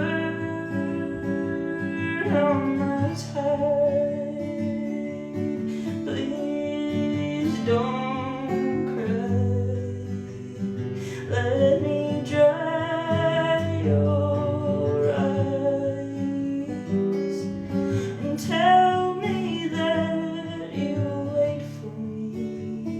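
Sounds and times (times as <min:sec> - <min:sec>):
acoustic guitar strumming: 0:00.0 - 0:22.9
woman singing: 0:00.0 - 0:22.9.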